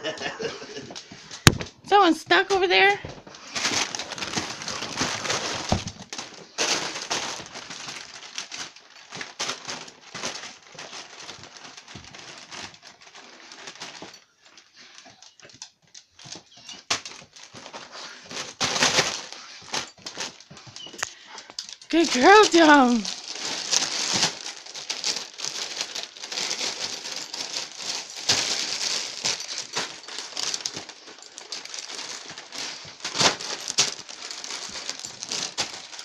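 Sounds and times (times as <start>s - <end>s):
dog ripping wrapping paper: 2.4s - 36.0s.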